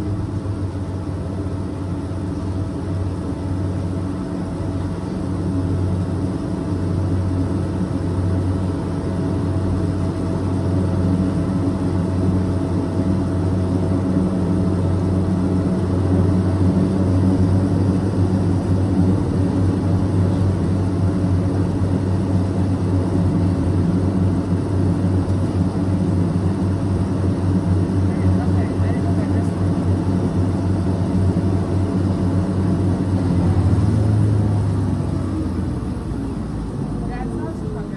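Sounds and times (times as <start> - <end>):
turboprop engines droning: 0.0 - 37.9.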